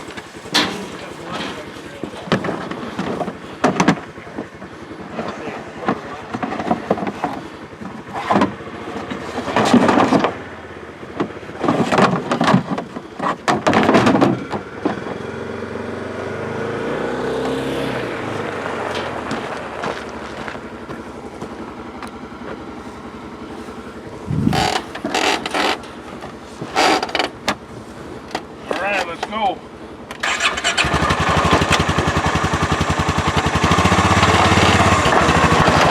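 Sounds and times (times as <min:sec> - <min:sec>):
rattling and scraping: 0:00.0 - 0:10.5, 0:11.1 - 0:15.2, 0:17.4 - 0:35.9
vehicle engine running: 0:00.0 - 0:35.9.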